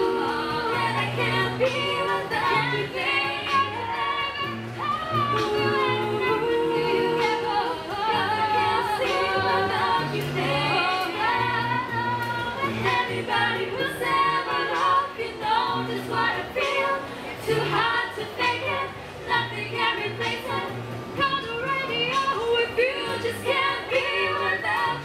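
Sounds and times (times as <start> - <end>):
a cappella group singing: 0.0 - 25.0
beatboxed percussion clicking: 0.0 - 25.0.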